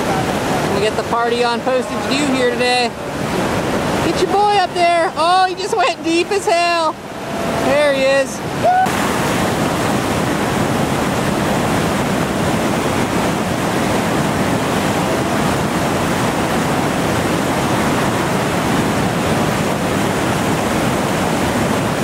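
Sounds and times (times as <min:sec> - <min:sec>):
whitewater rapid rushing: 0:00.0 - 0:22.0.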